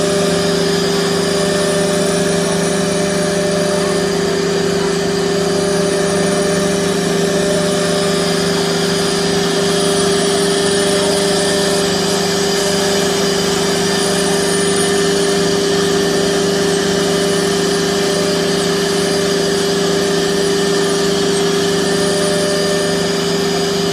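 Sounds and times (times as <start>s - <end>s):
dust collector drawing air: 0.0s - 23.9s
router cutting panel: 0.0s - 23.9s
router spindle hum and whine: 0.0s - 23.9s.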